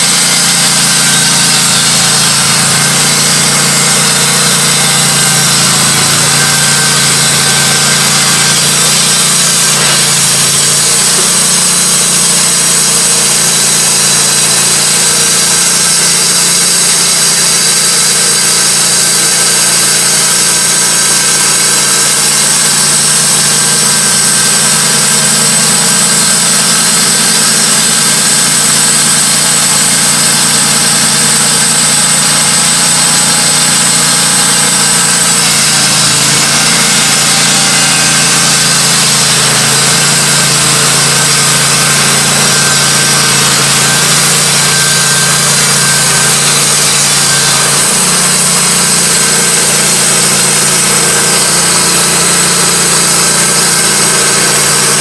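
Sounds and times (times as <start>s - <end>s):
bandsaw mill sawing log: 0.0s - 55.0s.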